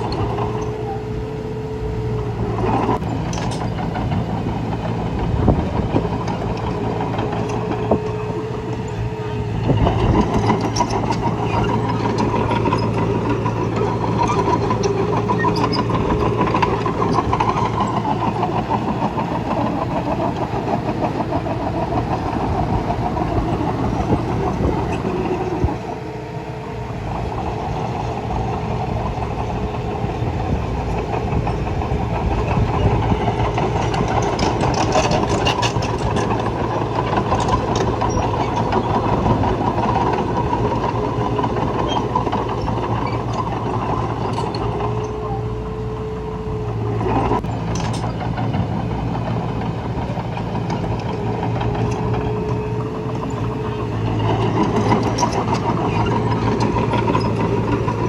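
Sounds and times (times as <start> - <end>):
bulldozer diesel engine rattling: 0.0 - 58.0.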